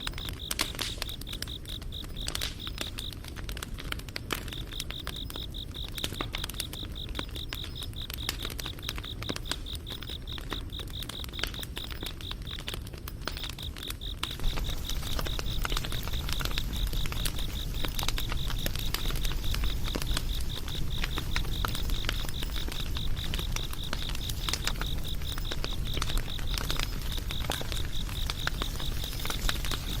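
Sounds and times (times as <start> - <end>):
insects chirping: 0.0 - 3.2, 4.4 - 30.0
campfire crackling: 0.0 - 30.0.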